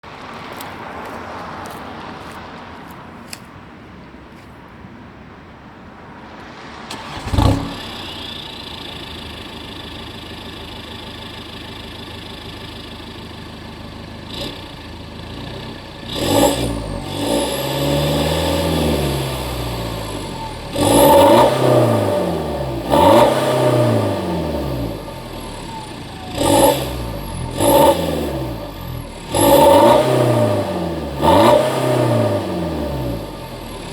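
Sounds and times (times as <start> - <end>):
diesel engine idling and revving: 6.4 - 33.9.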